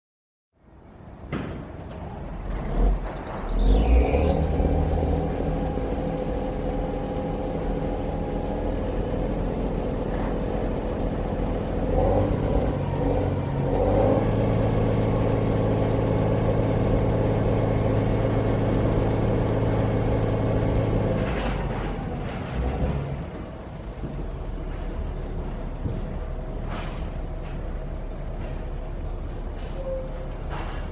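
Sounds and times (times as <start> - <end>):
truck engine running: 4.4 - 30.9.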